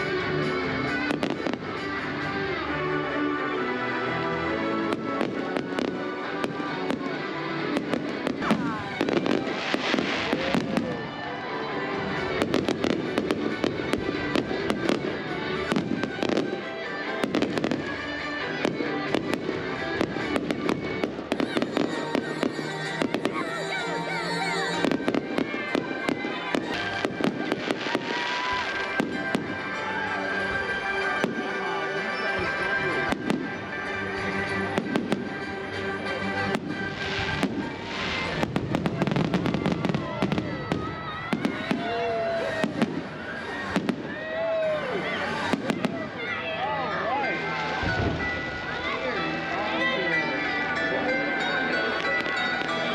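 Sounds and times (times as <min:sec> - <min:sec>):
fireworks banging and crackling: 0:00.0 - 0:02.4, 0:04.8 - 0:46.4, 0:47.4 - 0:49.1, 0:51.9 - 0:52.9
music playing: 0:00.0 - 0:52.9.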